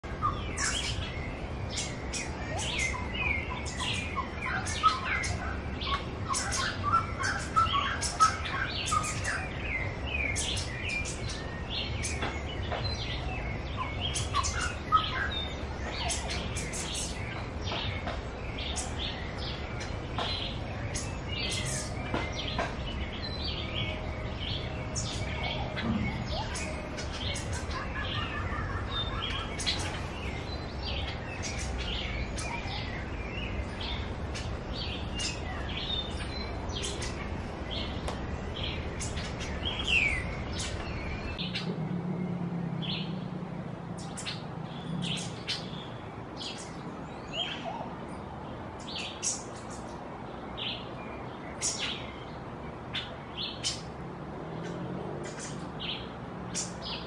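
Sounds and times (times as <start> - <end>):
wild birds chirping and calling: 0.0 - 57.0.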